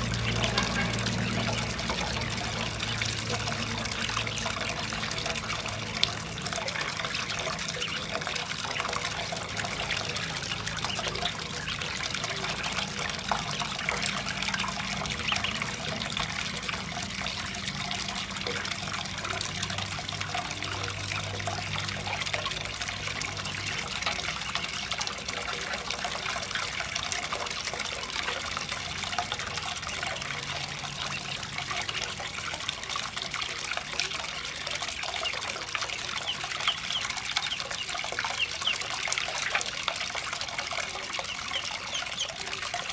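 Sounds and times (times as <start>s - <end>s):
water pouring into metal basin: 0.0s - 42.9s.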